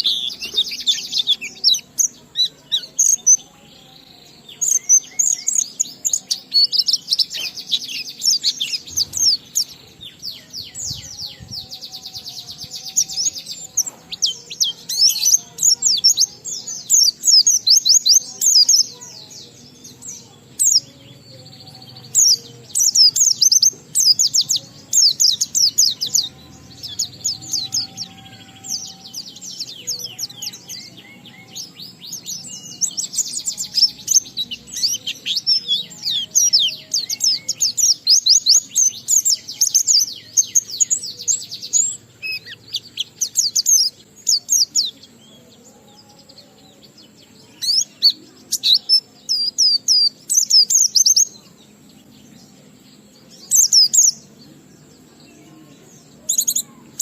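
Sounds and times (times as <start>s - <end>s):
bird singing rapid chirps and trills: 0.0s - 57.0s.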